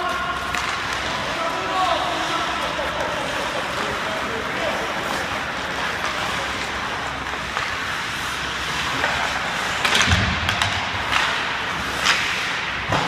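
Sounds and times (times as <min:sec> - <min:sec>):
hockey sticks knocking puck: 0:00.0 - 0:13.0
skates hissing on ice: 0:00.9 - 0:10.0, 0:11.0 - 0:13.0.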